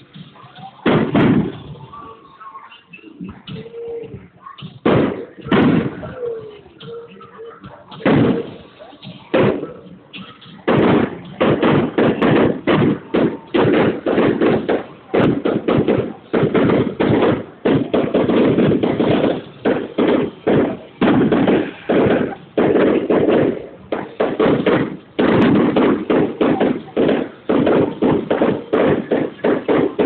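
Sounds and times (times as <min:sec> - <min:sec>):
fireworks bangs and crackles: 0:00.0 - 0:02.3, 0:03.2 - 0:30.0.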